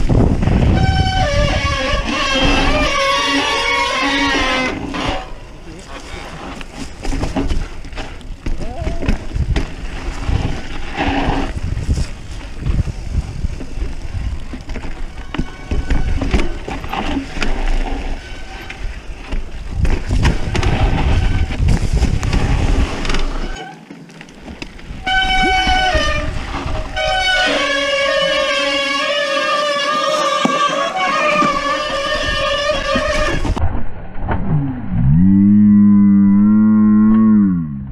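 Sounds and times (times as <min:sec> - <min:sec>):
bike rattling and knocking: 0:00.0 - 0:33.6
bike tyres rumbling on trail: 0:00.0 - 0:37.1.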